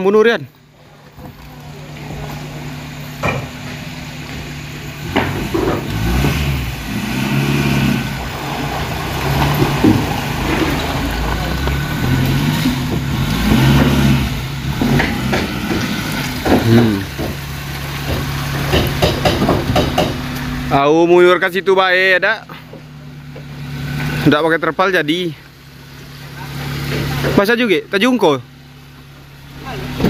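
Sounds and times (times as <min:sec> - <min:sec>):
vehicle engine idling and revving: 0:00.0 - 0:30.0.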